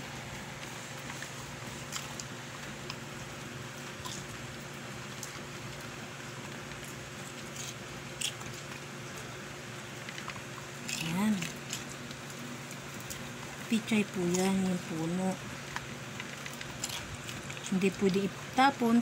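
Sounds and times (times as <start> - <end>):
dog chewing crunchy stems: 0.0 - 19.0
steady low hum: 0.0 - 19.0.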